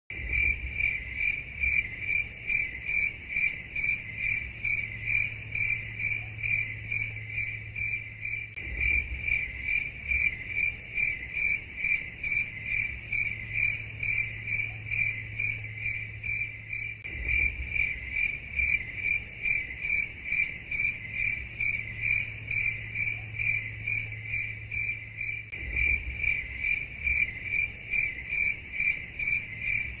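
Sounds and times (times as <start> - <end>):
cricket chirping: 0.1 - 30.0
faint low hum: 0.2 - 30.0.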